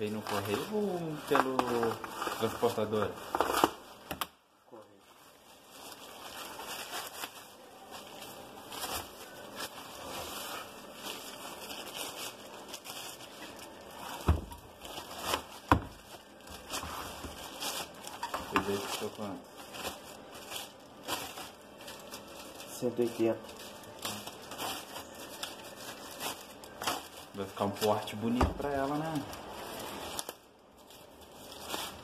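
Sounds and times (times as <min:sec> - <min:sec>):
bubble wrap crinkling: 0:00.0 - 0:32.0.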